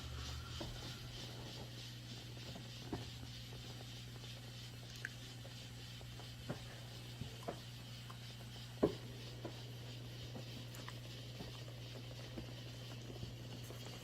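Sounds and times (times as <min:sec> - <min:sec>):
massage machine motor humming: 0:00.0 - 0:14.0.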